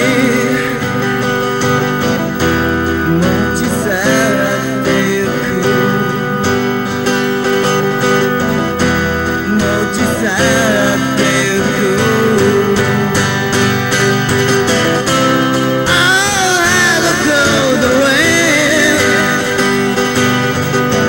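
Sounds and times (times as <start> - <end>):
strummed acoustic guitar: 0.0 - 21.0
wavering melody line: 0.0 - 21.0.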